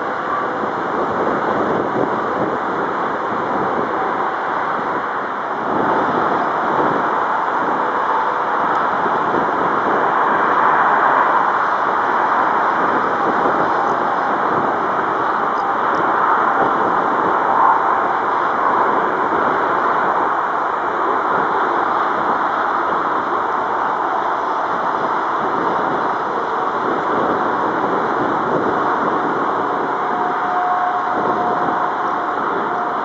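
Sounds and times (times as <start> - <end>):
jet engines at takeoff: 0.0 - 33.0.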